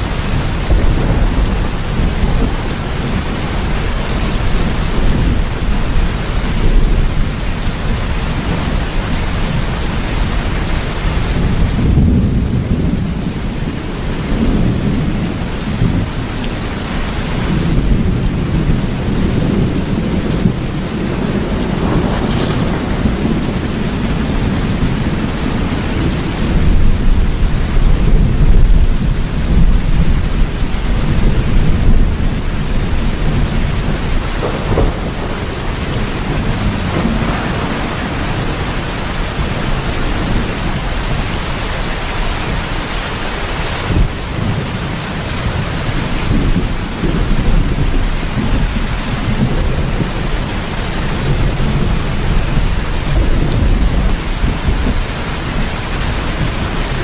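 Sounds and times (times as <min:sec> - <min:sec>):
heavy rain: 0:00.0 - 0:57.0
rolling thunder: 0:00.0 - 0:57.0.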